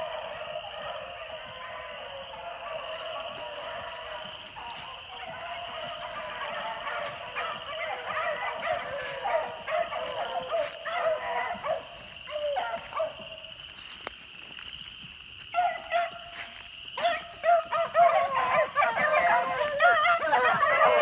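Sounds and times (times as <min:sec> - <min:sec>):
dogs baying and yelping: 0:00.0 - 0:21.0.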